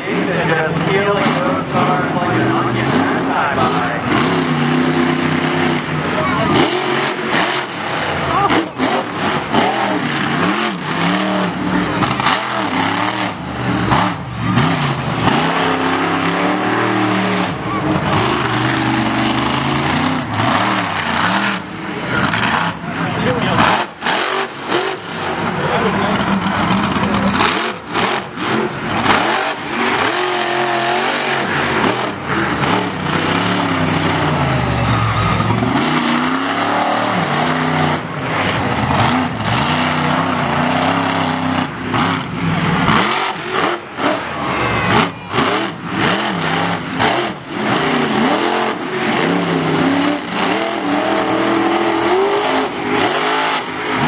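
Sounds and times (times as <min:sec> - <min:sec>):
motorsport engines revving: 0:00.0 - 0:54.0.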